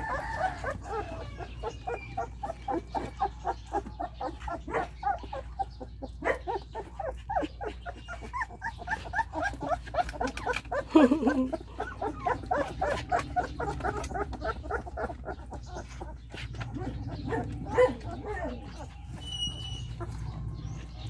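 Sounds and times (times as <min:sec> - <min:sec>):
puppies crying: 0:00.0 - 0:21.0.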